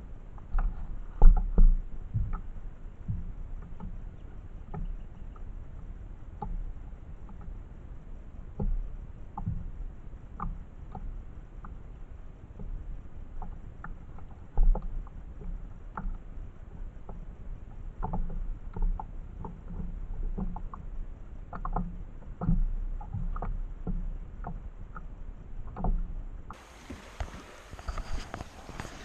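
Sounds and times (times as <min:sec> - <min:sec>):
knocks and clicks on a kayak: 0:00.0 - 0:29.0.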